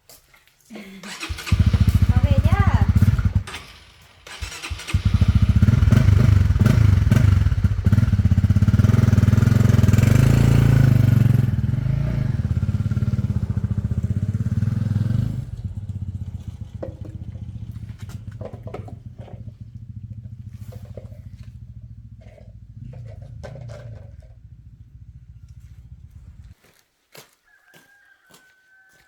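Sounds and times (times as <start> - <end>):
motorcycle engine running: 1.1 - 26.6.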